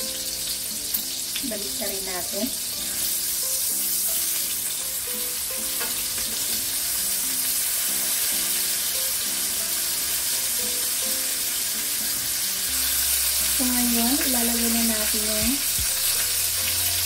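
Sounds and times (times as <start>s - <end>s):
meat sizzling in frying pan: 0.0s - 17.0s.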